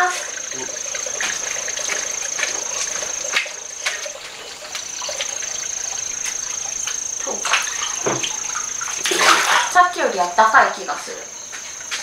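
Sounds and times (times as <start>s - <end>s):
bath water splashing: 0.0s - 10.0s
steady high whine: 0.0s - 12.0s.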